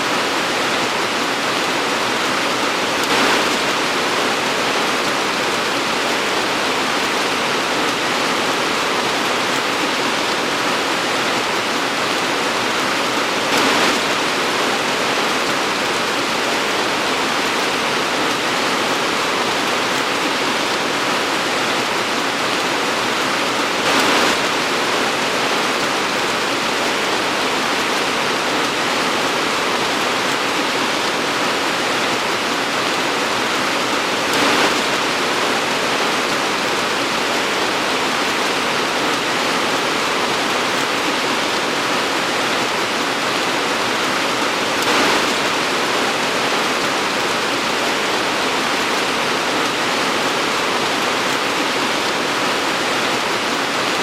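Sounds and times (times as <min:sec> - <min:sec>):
torrential rain: 0:00.0 - 0:54.0.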